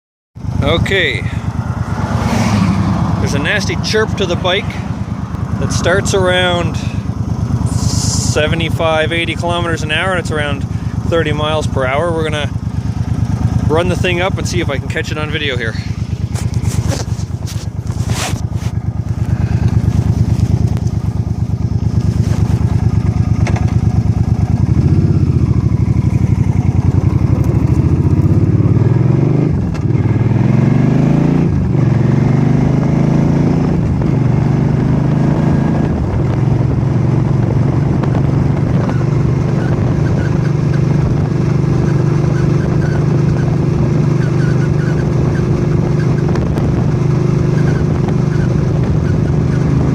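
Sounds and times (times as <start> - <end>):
motorcycle engine accelerating: 0.4 - 49.9.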